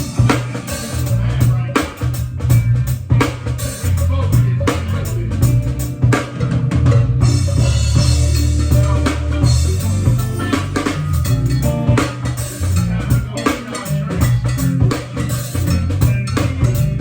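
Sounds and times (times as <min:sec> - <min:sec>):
band music: 0:00.0 - 0:17.0
deep bass line: 0:00.0 - 0:17.0.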